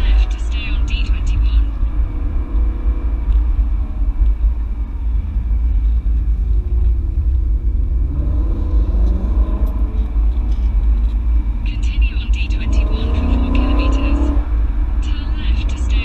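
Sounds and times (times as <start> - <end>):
car engine revving: 0.0 - 16.0
low road rumble: 0.0 - 16.0.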